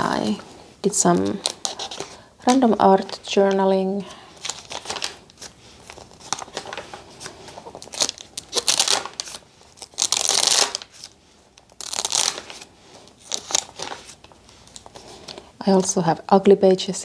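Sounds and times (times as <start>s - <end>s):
paper pages turning: 0.2s - 3.7s, 4.4s - 15.5s.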